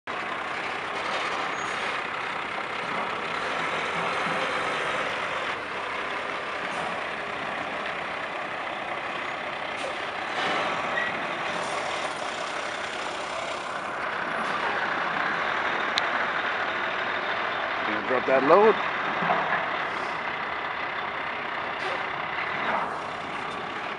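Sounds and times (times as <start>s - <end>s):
diesel truck engine running: 0.1s - 23.9s.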